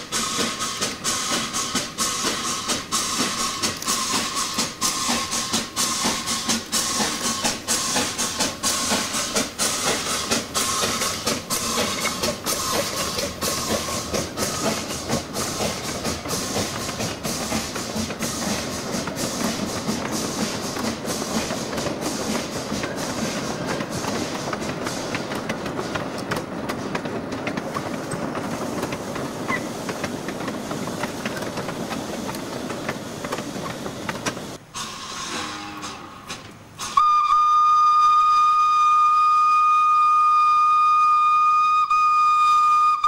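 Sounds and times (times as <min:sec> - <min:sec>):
wagon wheels clicking over rail joints: 0:00.0 - 0:37.0
locomotive steam hiss: 0:00.0 - 0:43.0.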